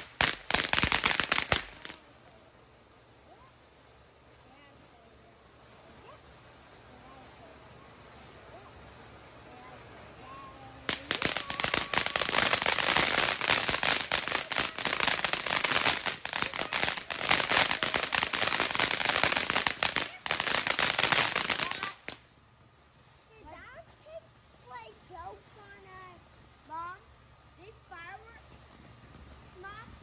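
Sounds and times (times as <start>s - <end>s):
fireworks cracking: 0.0s - 30.0s.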